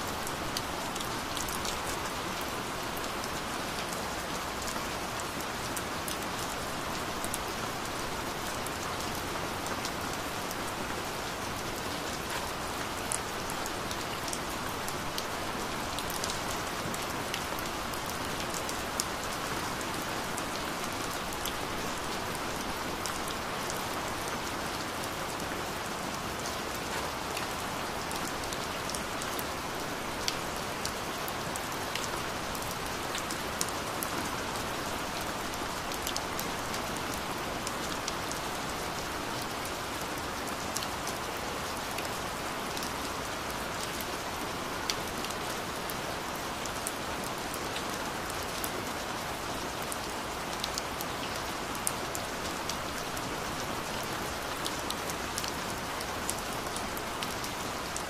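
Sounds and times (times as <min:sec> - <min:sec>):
gentle rain falling: 0:00.0 - 0:58.0
raindrops ticking on a surface: 0:00.0 - 0:58.0.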